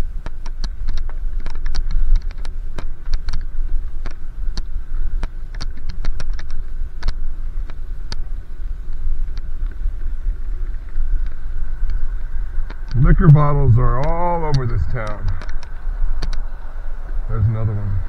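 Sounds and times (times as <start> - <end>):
sharp clicks and rattles: 0.0 - 8.3, 8.9 - 17.9
wind and road noise: 0.0 - 18.0.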